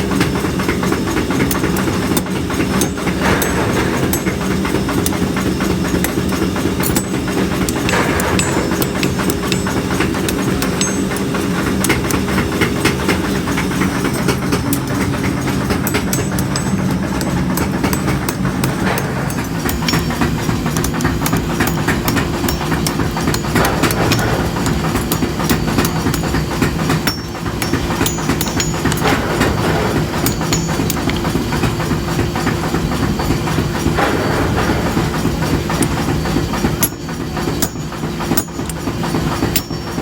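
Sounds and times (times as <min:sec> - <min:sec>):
machinery motor hum: 0:00.0 - 0:40.0
metallic clattering and knocking: 0:00.0 - 0:40.0.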